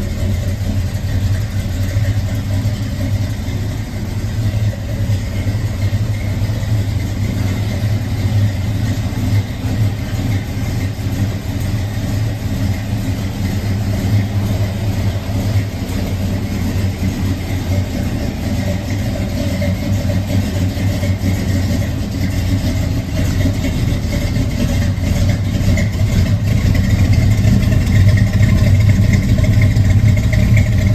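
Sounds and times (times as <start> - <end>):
pickup engine idling: 0.0 - 30.9.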